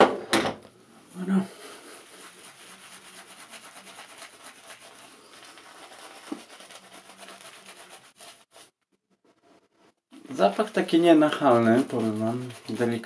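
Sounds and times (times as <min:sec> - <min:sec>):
shaving brush scrubbing lather: 0:01.1 - 0:08.8, 0:10.2 - 0:13.0.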